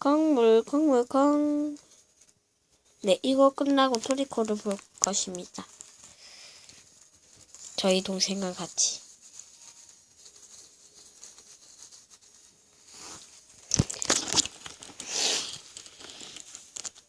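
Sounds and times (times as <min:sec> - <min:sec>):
rustling and crinkling: 0:00.0 - 0:17.0
sharp crackles: 0:01.2 - 0:17.0.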